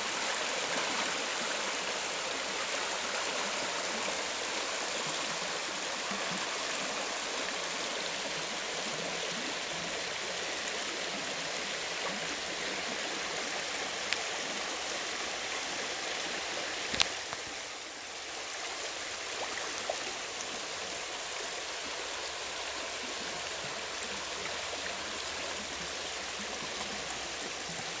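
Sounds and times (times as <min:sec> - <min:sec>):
creek water rushing over gravel: 0:00.0 - 0:28.0.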